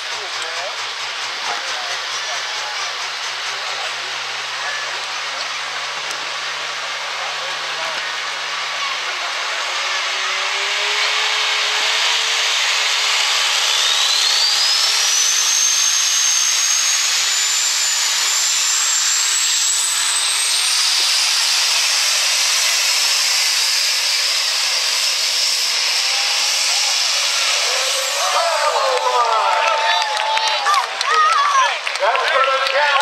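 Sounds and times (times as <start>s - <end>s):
diesel truck engine running hard: 0.0s - 33.0s
high whine: 1.5s - 30.8s.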